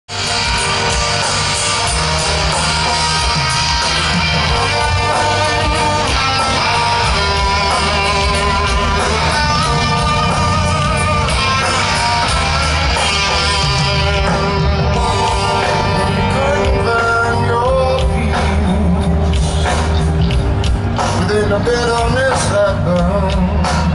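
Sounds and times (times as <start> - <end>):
electric guitar melody: 0.1 - 23.9
low bass: 0.1 - 23.9.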